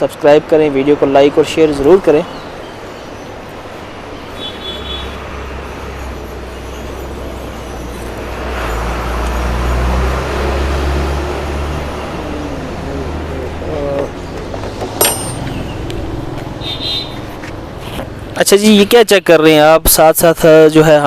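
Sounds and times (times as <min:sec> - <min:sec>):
traffic noise: 0:00.0 - 0:21.0.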